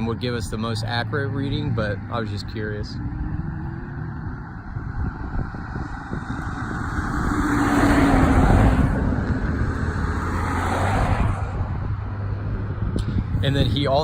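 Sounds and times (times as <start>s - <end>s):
vehicle driving past: 0.4s - 13.3s
wind on microphone: 1.4s - 14.0s.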